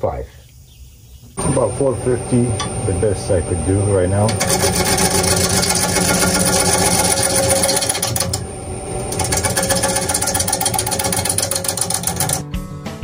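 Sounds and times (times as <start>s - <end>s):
lathe tool cutting spinning wood: 1.4s - 12.4s.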